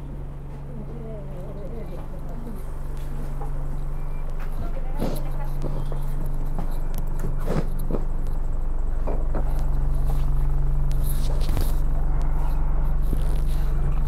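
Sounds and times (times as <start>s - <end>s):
bus engine humming: 0.0s - 14.0s.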